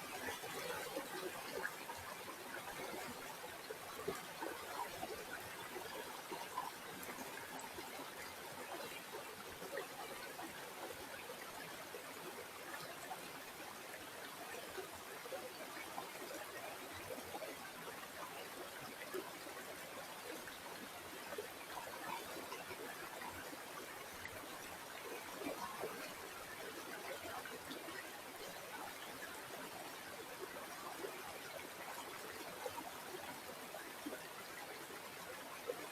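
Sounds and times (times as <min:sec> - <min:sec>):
stream flowing over stones: 0:00.0 - 0:35.9.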